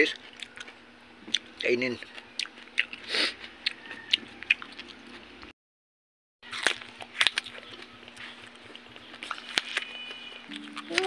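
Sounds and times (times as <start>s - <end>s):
person chewing raw vegetables: 0.0s - 5.5s, 6.4s - 11.0s.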